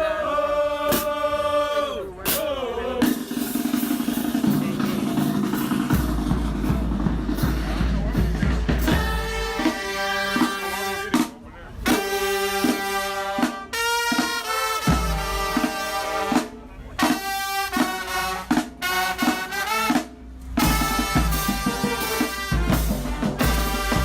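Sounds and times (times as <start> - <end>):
marching band brass: 0.0 - 24.0
marching band drums: 0.8 - 1.5, 2.3 - 24.0.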